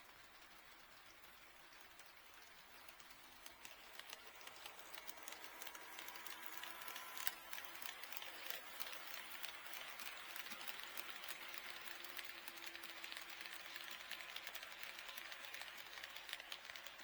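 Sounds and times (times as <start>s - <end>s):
model train wheels clicking: 0.0s - 17.0s.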